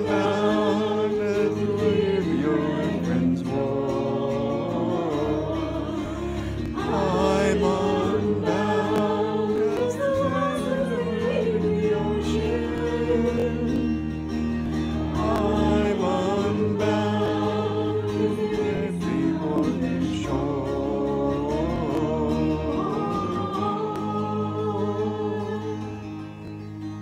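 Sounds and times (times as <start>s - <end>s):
woman singing: 0.0s - 14.1s, 15.1s - 26.3s
bouzouki: 0.0s - 27.0s
bowed cello: 0.0s - 27.0s.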